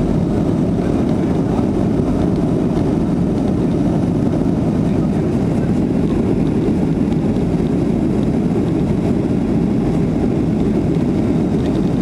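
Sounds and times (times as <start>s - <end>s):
airflow over fuselage: 0.0s - 12.0s
airplane cabin engine rumble: 0.0s - 12.0s.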